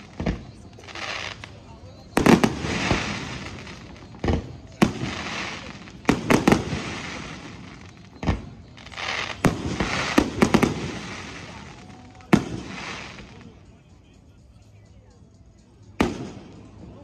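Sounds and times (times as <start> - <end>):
fireworks bursting: 0.0 - 14.2, 15.8 - 17.0.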